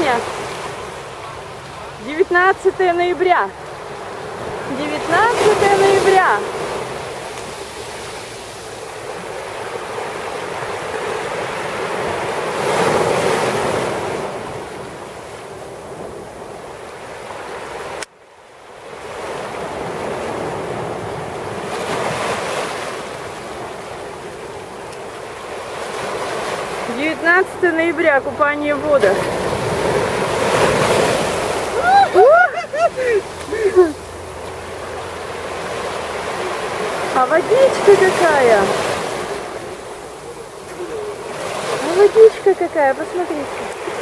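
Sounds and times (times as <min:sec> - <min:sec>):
small waves breaking on beach: 0:00.0 - 0:44.0.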